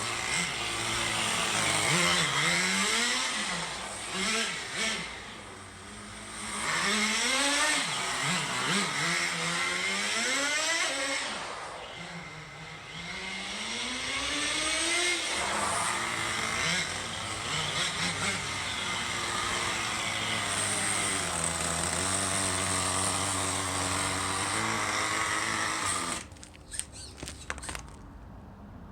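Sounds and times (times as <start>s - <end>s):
model car engine revving: 0.0s - 28.0s.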